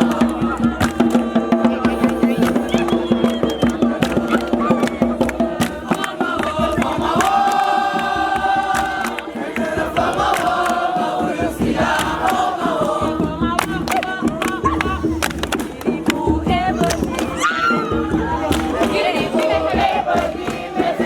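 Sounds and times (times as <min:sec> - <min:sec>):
group of voices singing: 0:00.0 - 0:21.0.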